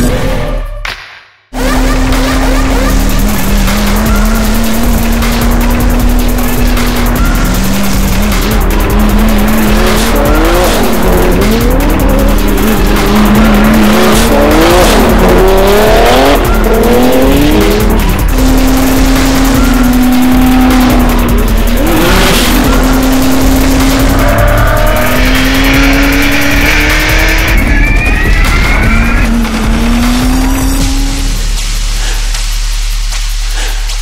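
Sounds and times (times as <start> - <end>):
music: 0.0 - 34.0
tire squeal: 1.6 - 31.2
car engines revving: 1.6 - 33.8.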